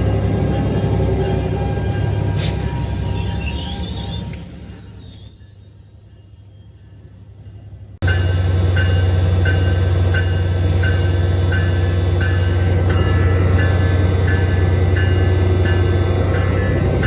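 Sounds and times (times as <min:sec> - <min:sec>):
locomotive bell ringing: 0:00.0 - 0:17.0.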